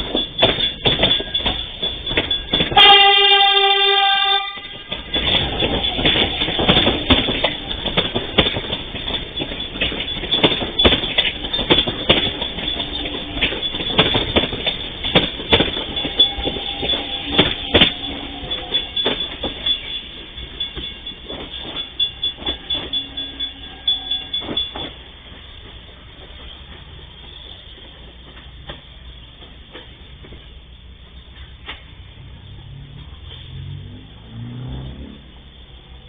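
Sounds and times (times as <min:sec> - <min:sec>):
train wheels clacking over rail joints: 0:00.0 - 0:32.0.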